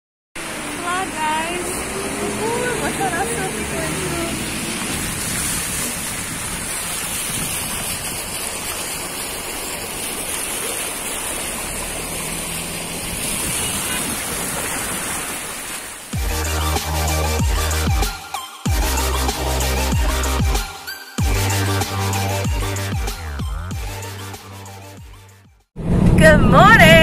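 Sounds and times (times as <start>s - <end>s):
floodwater rushing: 0.4s - 23.9s.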